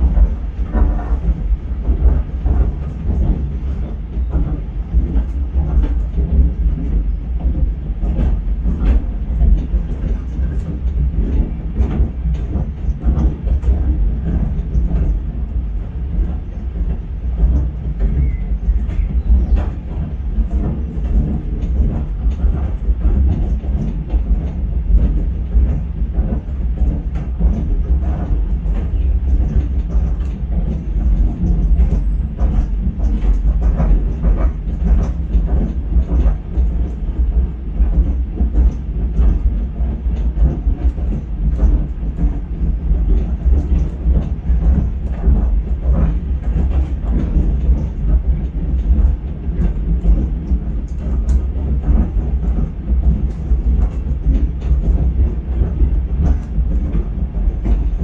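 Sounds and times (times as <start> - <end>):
train low rumble: 0.0 - 58.0
wheels knocking and rattling: 0.0 - 58.0.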